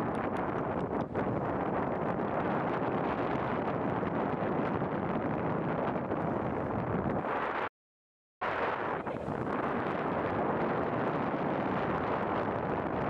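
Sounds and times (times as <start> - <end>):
wind on microphone: 0.0 - 7.7, 8.4 - 13.0.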